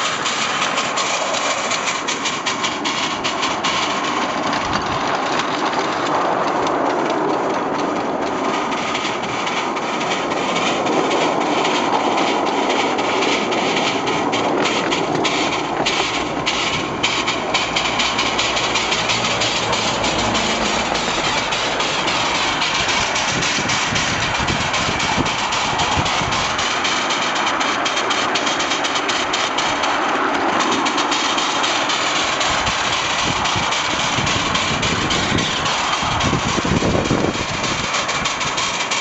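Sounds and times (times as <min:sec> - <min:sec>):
steam locomotive running: 0:00.0 - 0:39.0
wheels clicking over rails: 0:00.0 - 0:39.0.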